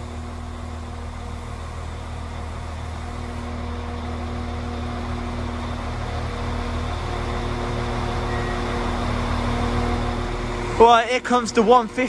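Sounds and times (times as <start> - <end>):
train diesel engines idling: 0.0 - 12.0.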